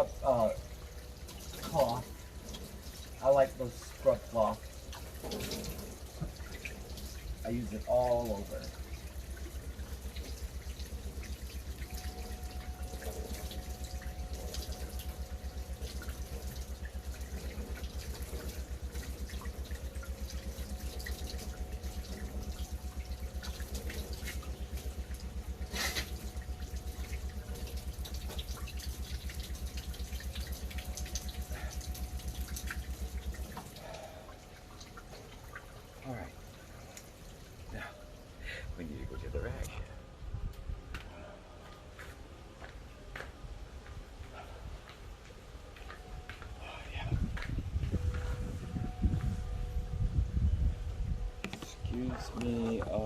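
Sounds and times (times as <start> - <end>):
water running and dripping: 0.0 - 39.8, 43.9 - 49.8.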